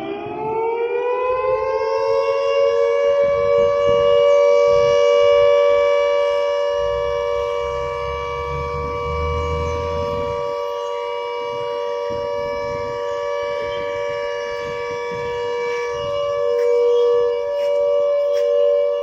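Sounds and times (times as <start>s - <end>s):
warning siren: 0.0s - 19.0s.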